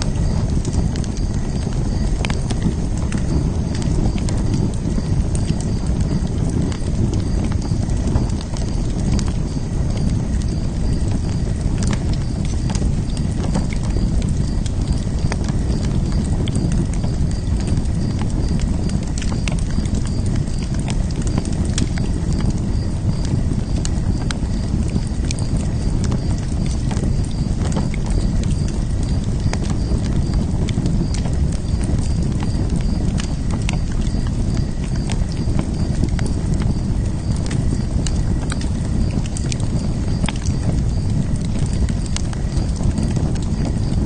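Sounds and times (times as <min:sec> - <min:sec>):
fire crackling and popping: 0:00.0 - 0:44.0
fire rumbling: 0:00.0 - 0:44.0.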